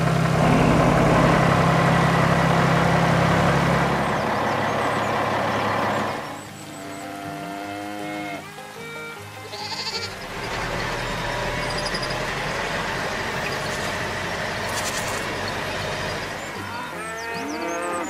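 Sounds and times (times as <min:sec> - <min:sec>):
cartoon tractor engine: 0:00.0 - 0:06.6, 0:09.6 - 0:18.0.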